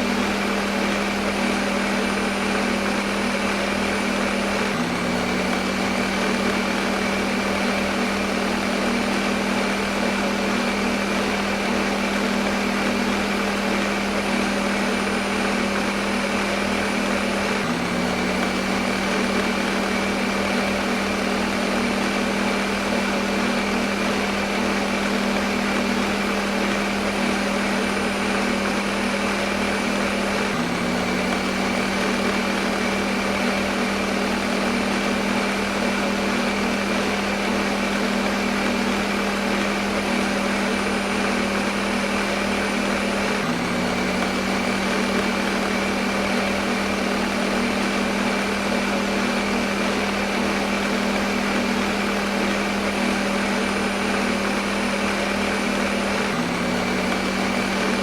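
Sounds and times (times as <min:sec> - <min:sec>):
blender running: 0:00.0 - 0:58.0.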